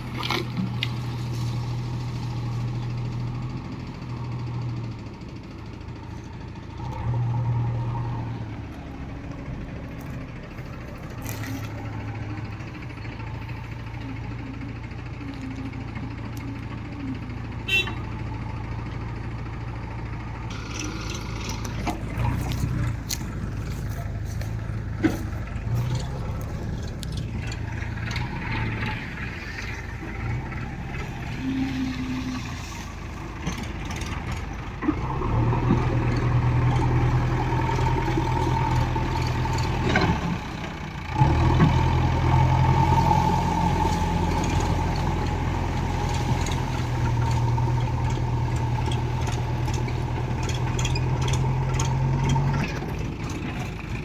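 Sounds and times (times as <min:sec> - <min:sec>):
diesel farm machinery engine: 0:00.0 - 0:54.0.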